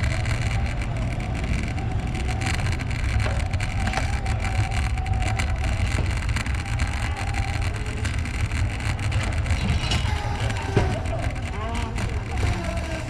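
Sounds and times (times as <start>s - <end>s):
rolling tyre noise: 0.0s - 13.0s.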